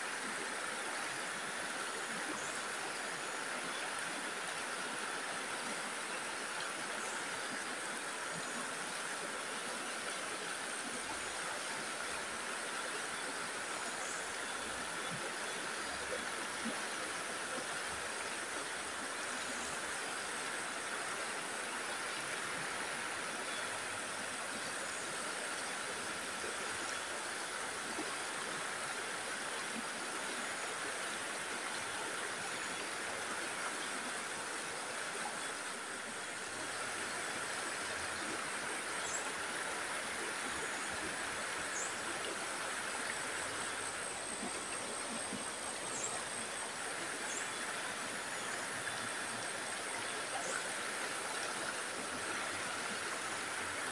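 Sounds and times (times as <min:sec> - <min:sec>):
stream rushing over rocks: 0:00.0 - 0:53.9.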